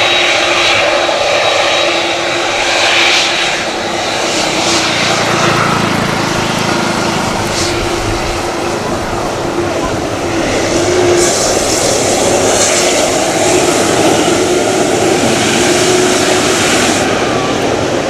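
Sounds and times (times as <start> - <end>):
high engine whine: 0.0 - 18.0
jet engines droning: 0.0 - 18.0.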